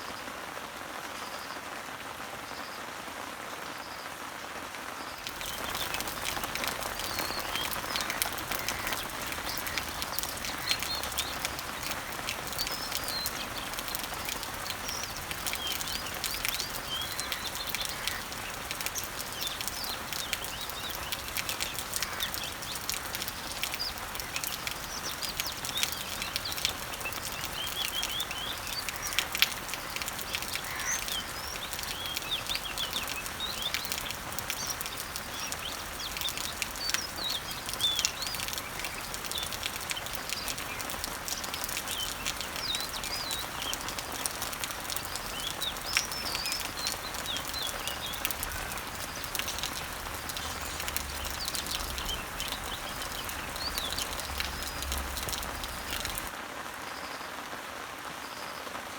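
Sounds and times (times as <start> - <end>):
rain pattering on leaves: 0.0 - 58.9
small birds chirping: 5.0 - 57.4.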